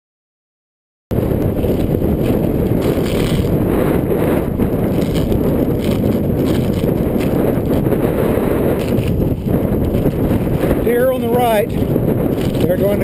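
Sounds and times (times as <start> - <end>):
wind buffeting microphone: 1.1 - 13.0.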